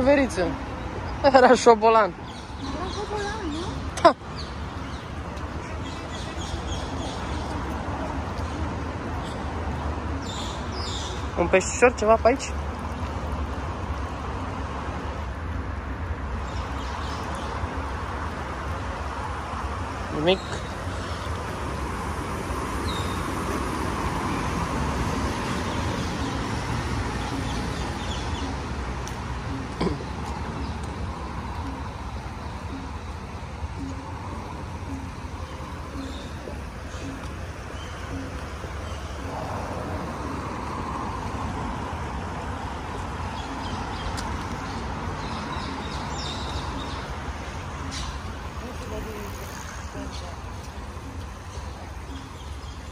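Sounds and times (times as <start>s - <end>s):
road traffic rushing: 0.0s - 52.9s
vehicle passing: 0.0s - 52.9s.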